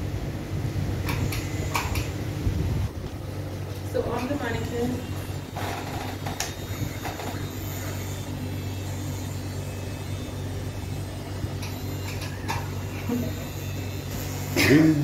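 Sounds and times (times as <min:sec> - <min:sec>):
tattoo machine humming: 0:01.0 - 0:15.0.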